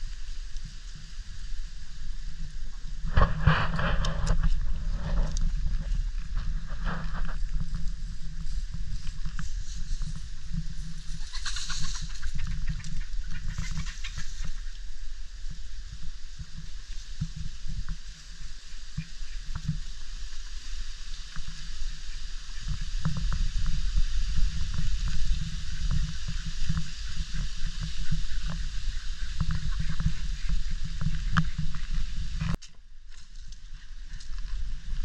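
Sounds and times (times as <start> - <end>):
wind buffeting microphone: 0.0 - 32.6, 33.6 - 35.0
steady outdoor hiss: 0.0 - 35.0.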